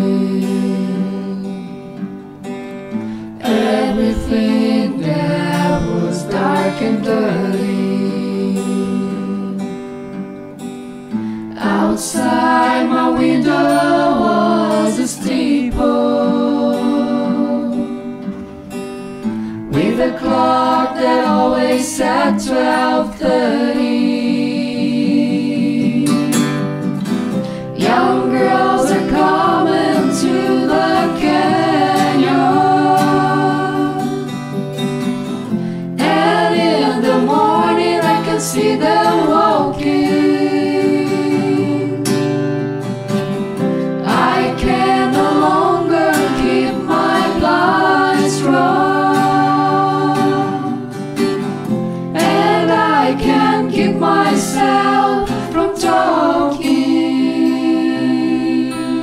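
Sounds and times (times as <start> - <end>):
voices singing together: 0.0 - 2.1, 3.0 - 9.9, 11.4 - 18.4, 19.2 - 26.8, 27.5 - 42.4, 43.2 - 59.0
guitar: 0.0 - 59.0.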